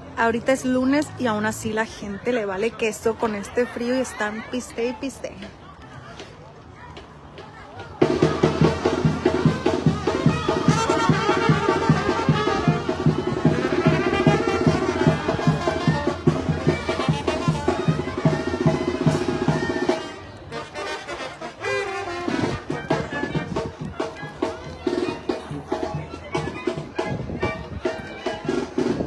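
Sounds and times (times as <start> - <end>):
brass band with drums: 0.0 - 29.0.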